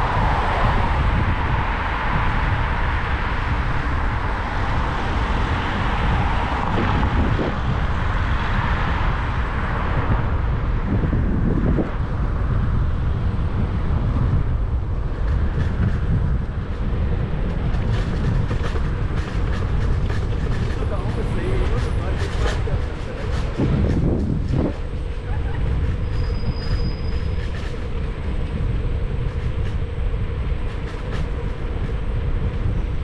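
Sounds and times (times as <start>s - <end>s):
street traffic noise: 0.0s - 33.0s
wind rumble on microphone: 0.0s - 33.0s.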